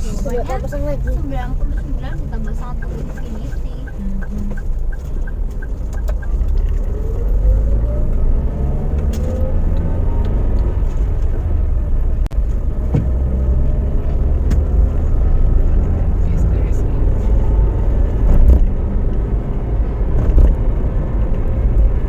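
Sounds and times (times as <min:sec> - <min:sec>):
car engine accelerating: 0:00.0 - 0:22.0
road rumble: 0:00.0 - 0:22.0.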